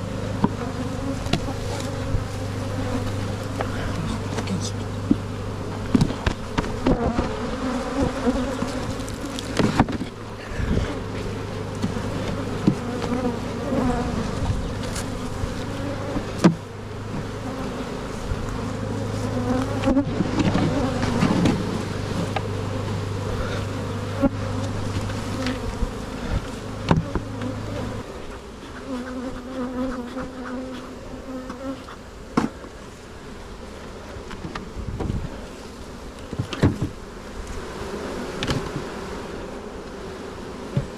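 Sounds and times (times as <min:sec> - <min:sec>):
honey bees buzzing: 0:00.0 - 0:40.9.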